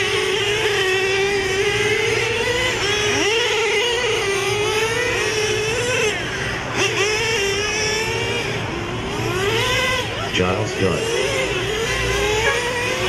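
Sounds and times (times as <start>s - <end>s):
model race car motors whining: 0.0s - 13.0s.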